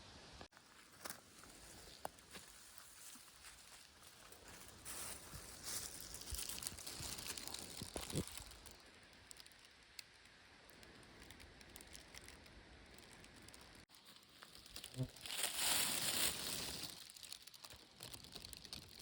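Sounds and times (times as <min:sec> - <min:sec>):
leaves and twigs rustling: 0:00.5 - 0:19.0
twigs snapping: 0:01.9 - 0:19.0.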